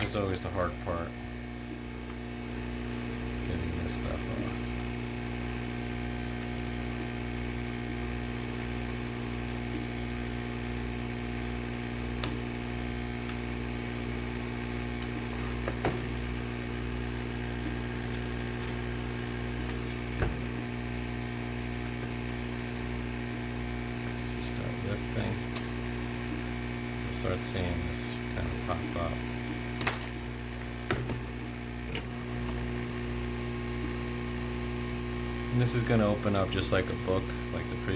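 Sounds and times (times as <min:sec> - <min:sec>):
machine electric hum: 0:00.0 - 0:37.9.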